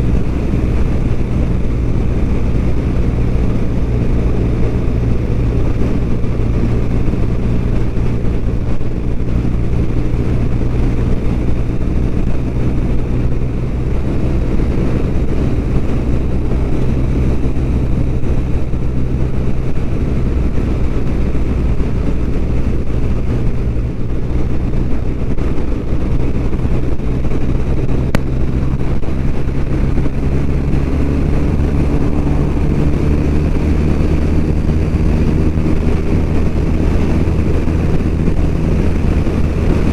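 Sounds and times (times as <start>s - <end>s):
low wind rumble: 0.0s - 39.9s
motorcycle engine cruising: 0.0s - 39.9s.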